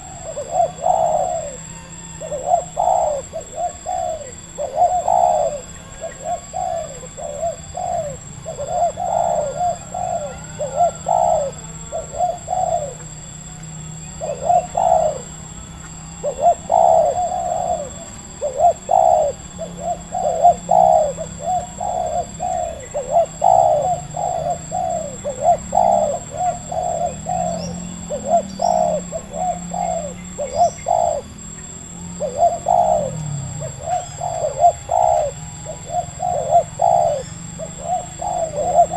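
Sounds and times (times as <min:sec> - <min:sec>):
doves cooing: 0:00.0 - 0:38.9
small bird chirping: 0:00.0 - 0:38.9.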